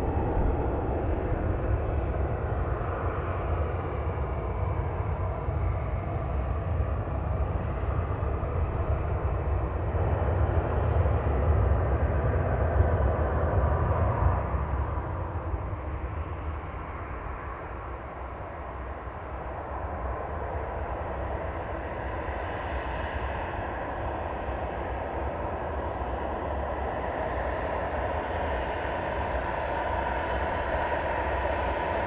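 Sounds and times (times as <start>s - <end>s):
jet airliner engines running: 0.0s - 32.0s
wind rumbling on microphone: 0.0s - 32.0s.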